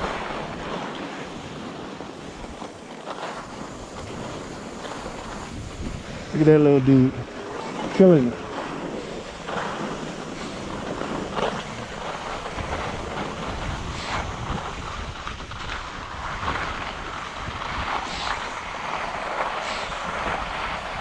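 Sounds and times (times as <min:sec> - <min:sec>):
ski edges scraping snow: 0:00.0 - 0:21.0
wind rushing over microphone: 0:00.0 - 0:21.0.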